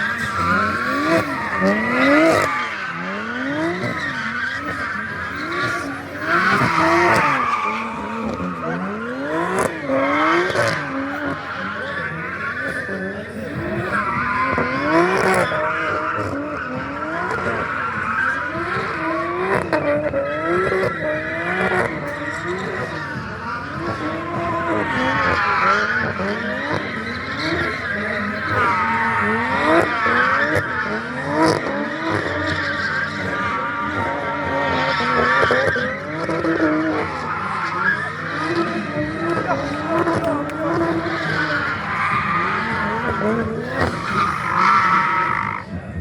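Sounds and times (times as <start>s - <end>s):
tyres squealing: 0.0s - 45.6s
car engine revving: 0.0s - 46.0s.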